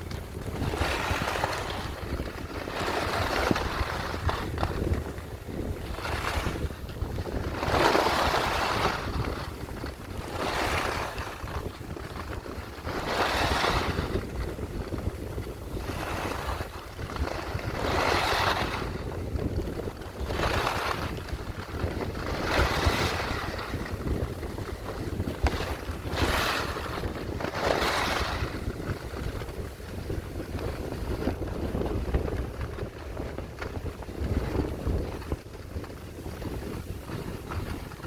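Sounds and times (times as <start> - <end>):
wind rumble on microphone: 0.0 - 38.0
skis swishing through snow: 0.1 - 38.0.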